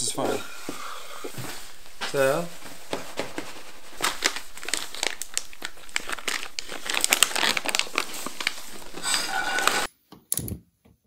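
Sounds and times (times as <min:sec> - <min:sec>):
plastic bag crinkling: 0:00.2 - 0:09.9.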